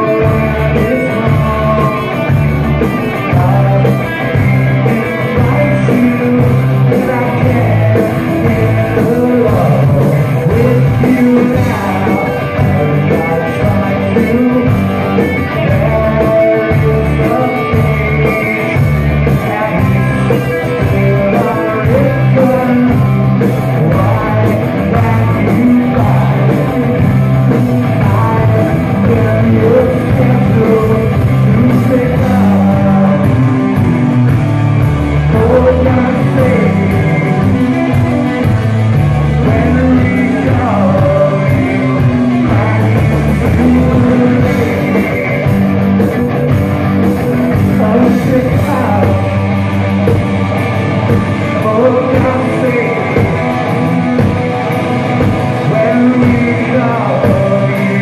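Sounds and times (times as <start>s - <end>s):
man singing: 0.0s - 34.3s, 35.0s - 50.2s, 51.1s - 54.4s, 55.1s - 58.0s
rock band playing: 0.0s - 58.0s.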